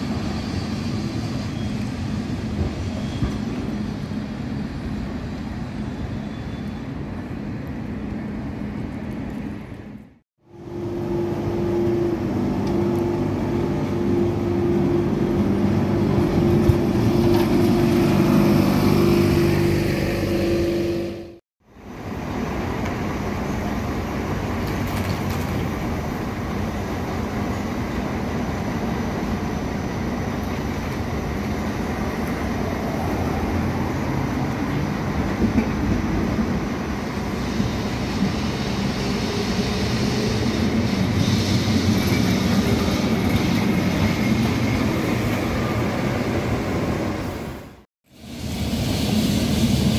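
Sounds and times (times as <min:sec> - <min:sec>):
city street traffic: 0:00.0 - 0:49.9
tram humming: 0:00.0 - 0:49.9.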